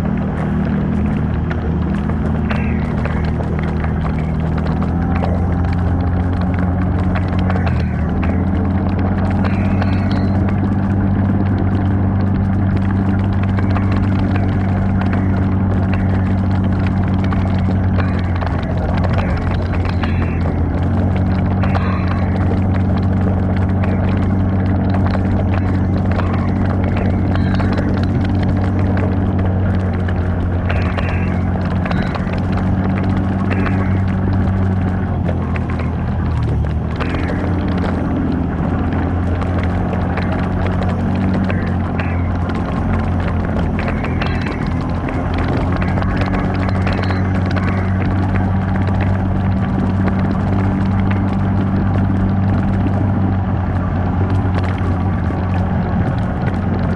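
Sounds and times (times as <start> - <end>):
clicks and rattles: 0.0 - 56.9
vehicle engine running: 0.0 - 56.9.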